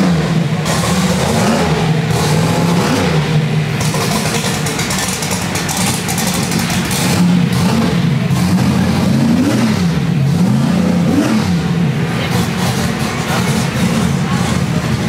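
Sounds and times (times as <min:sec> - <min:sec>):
race car engine idling and revving: 0:00.0 - 0:15.0.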